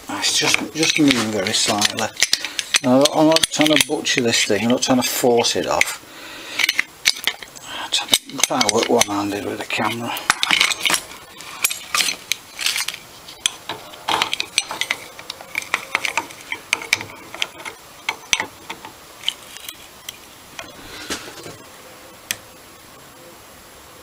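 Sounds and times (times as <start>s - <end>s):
hand tools clicking on metal: 0.2s - 20.8s.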